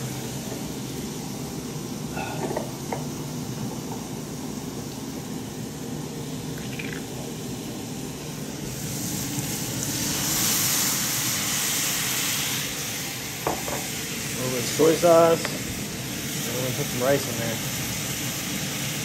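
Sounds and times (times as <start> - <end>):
sauce hissing in a hot pan: 0.0 - 19.0
stir-fry sizzling in a skillet: 0.0 - 19.0.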